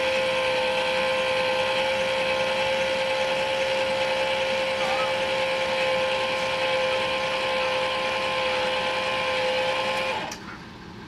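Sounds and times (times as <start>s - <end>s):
electric landing gear whining: 0.0s - 10.5s.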